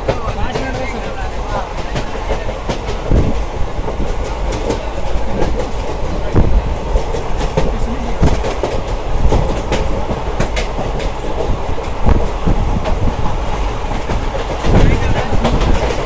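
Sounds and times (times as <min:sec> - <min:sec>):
train rumbling along track: 0:00.0 - 0:16.0
wheels clicking over rail joints: 0:00.0 - 0:16.0.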